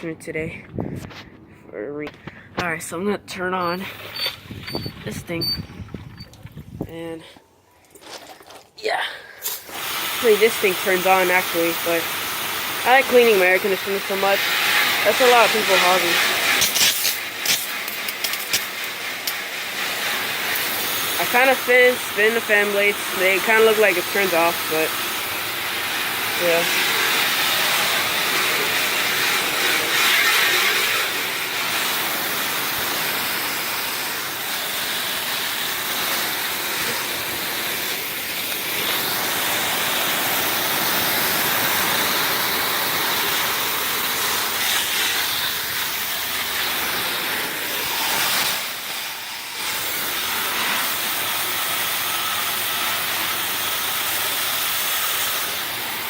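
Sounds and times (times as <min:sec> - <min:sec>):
hose water spraying: 0:02.7 - 0:07.2, 0:07.8 - 0:56.0.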